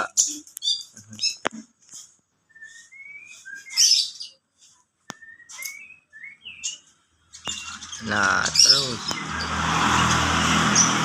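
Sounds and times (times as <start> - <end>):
bird singing high chirps: 0.0 - 1.4, 2.5 - 4.4, 5.1 - 11.0.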